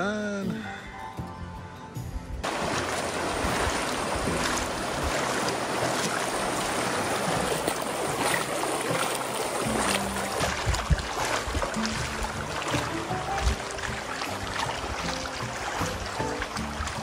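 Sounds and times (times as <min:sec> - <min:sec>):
river water rushing: 0:02.4 - 0:17.0
water splashes: 0:02.4 - 0:17.0.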